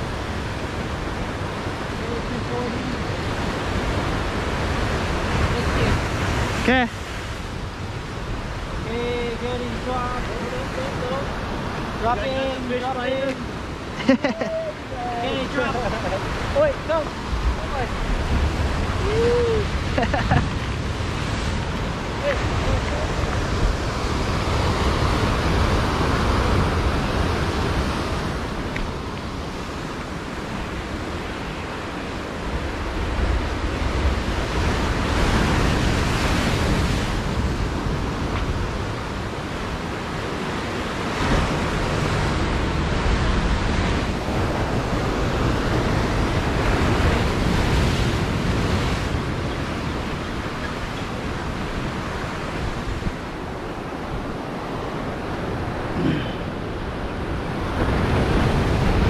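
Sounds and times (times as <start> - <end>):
ocean surf breaking on rocks: 0.0 - 59.0
wind rumble on microphone: 0.0 - 59.0.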